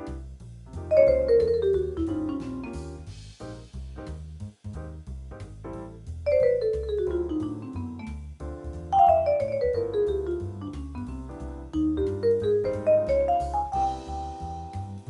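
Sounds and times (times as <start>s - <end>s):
bass line: 0.0s - 15.0s
jazz melodic instrument runs: 0.8s - 4.2s, 5.4s - 15.0s.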